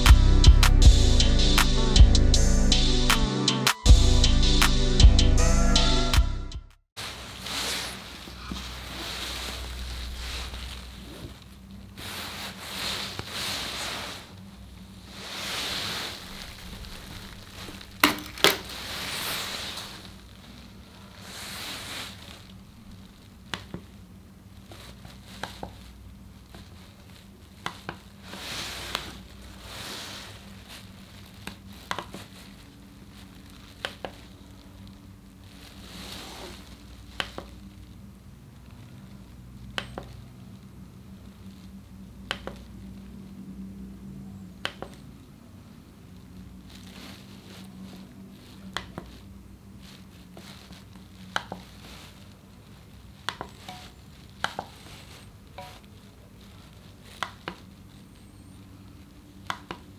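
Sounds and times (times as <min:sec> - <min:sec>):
soft rustling: 0:07.0 - 0:43.4, 0:45.4 - 0:59.9.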